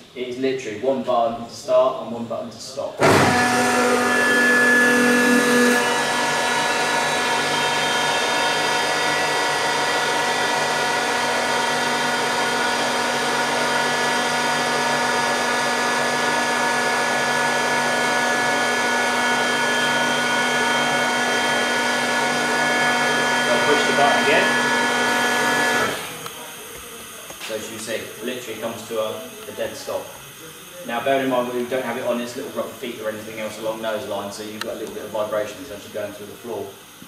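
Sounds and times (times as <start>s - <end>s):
air compressor whining over hiss: 2.9s - 37.0s.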